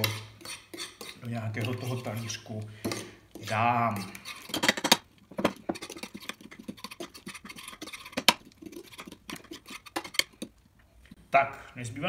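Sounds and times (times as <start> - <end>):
fork clicking and scraping on plate: 0.0 - 10.6.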